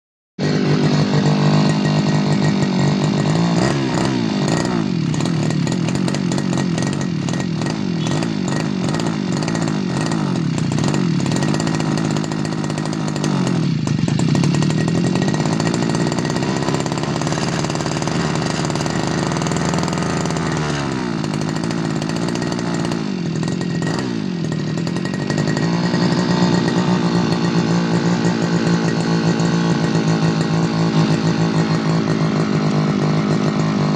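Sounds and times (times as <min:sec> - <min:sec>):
brush cutter engine revving: 0:00.4 - 0:33.9.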